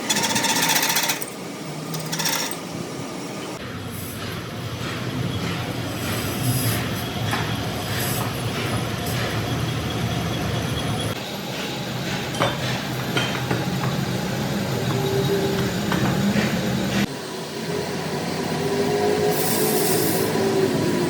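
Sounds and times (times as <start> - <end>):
workshop machinery running: 0.0 - 21.0.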